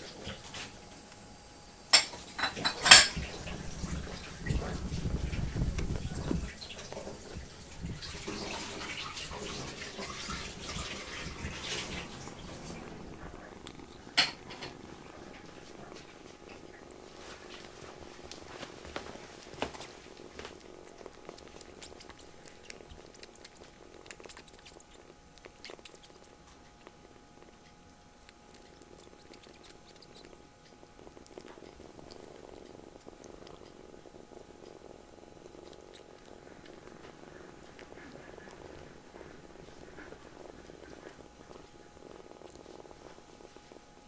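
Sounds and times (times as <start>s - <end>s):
kitten purring: 0.0s - 44.0s.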